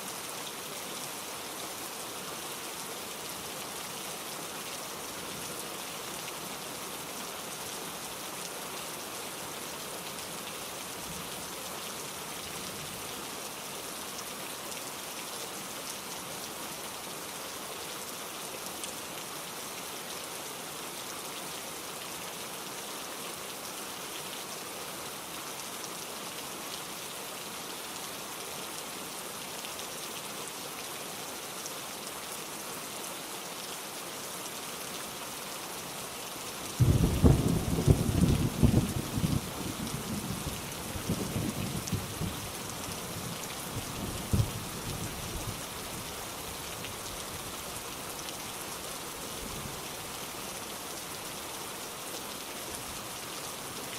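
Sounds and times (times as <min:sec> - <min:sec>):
steady rainfall: 0:00.0 - 0:53.9.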